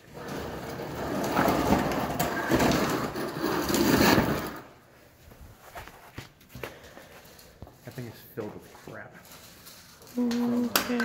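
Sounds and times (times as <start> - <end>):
gritty crackling and scraping: 0.1 - 4.8, 5.6 - 11.0.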